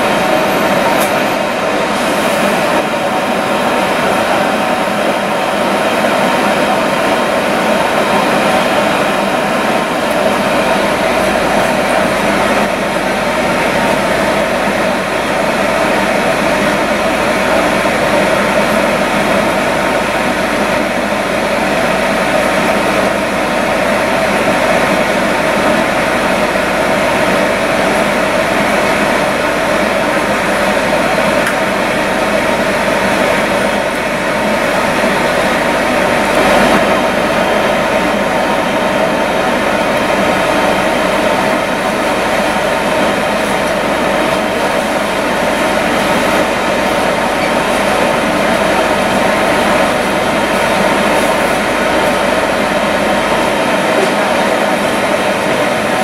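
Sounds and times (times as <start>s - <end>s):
crowd hubbub: 0.0s - 56.0s.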